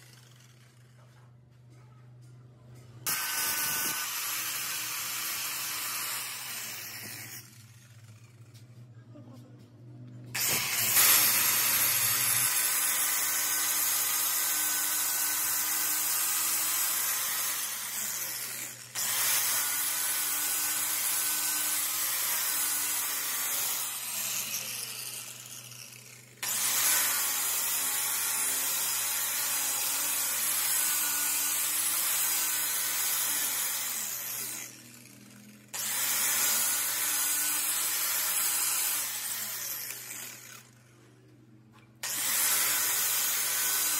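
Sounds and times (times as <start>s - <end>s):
angle grinder grinding steel: 3.1s - 8.6s, 10.3s - 40.9s, 42.0s - 43.9s.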